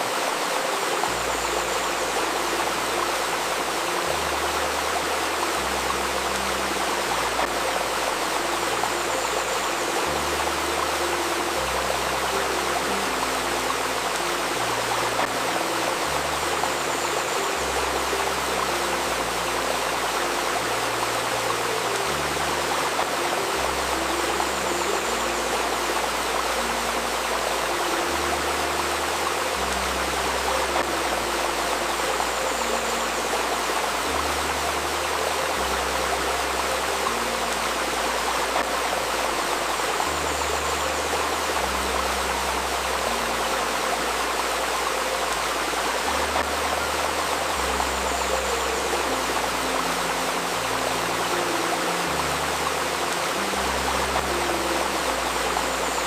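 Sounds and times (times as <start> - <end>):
river babbling: 0.0 - 56.0.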